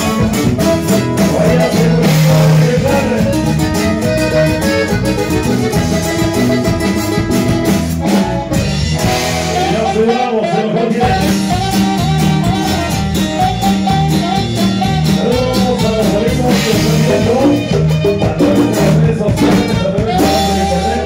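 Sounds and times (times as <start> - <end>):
live band music: 0.0 - 21.0.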